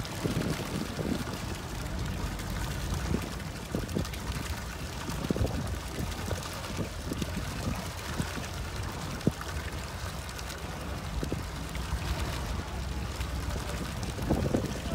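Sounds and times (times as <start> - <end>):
low steady rumble: 0.0 - 14.9
water sloshing against boat hull: 0.0 - 14.9.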